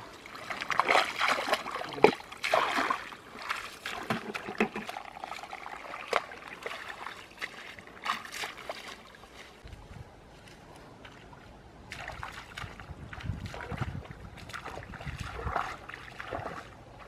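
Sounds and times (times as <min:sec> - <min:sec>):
sharp splashes: 0:00.0 - 0:09.6, 0:11.9 - 0:16.8
person wading through water: 0:00.0 - 0:17.0.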